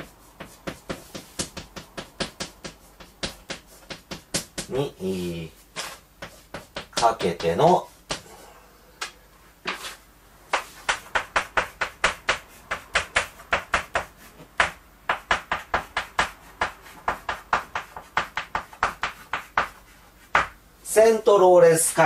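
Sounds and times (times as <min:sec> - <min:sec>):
chalk tapping on blackboard: 0:00.0 - 0:04.8, 0:05.8 - 0:08.2, 0:09.6 - 0:20.6.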